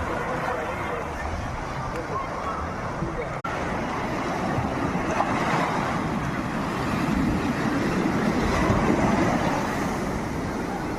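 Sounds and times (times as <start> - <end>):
sea surf washing ashore: 0.0 - 10.9.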